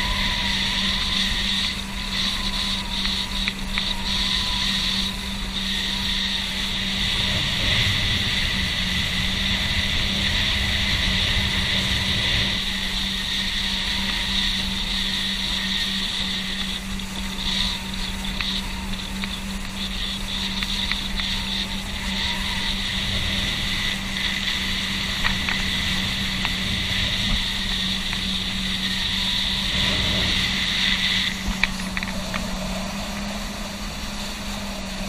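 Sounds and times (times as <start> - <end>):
low rumble: 0.0 - 35.0
motorboat engine humming: 0.0 - 35.0
wind: 0.0 - 35.0.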